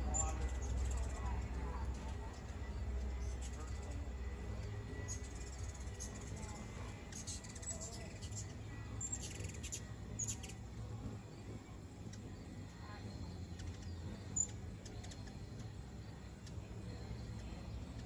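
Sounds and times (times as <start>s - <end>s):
faint low rumble: 0.0s - 18.0s
hummingbirds squeaky chips: 0.0s - 18.0s.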